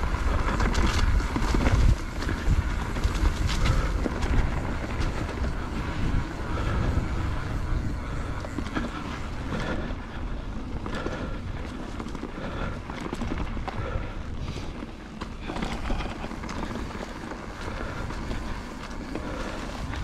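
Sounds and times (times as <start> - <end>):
bike rattling over bumps: 0.0 - 20.0
bike tyre noise: 0.0 - 20.0
wind buffeting microphone: 0.0 - 20.0.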